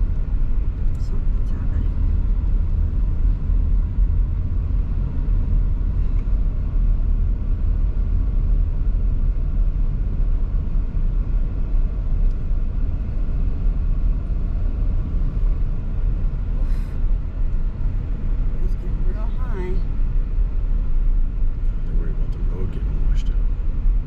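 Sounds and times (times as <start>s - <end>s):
car driving on paved road: 0.0s - 24.0s.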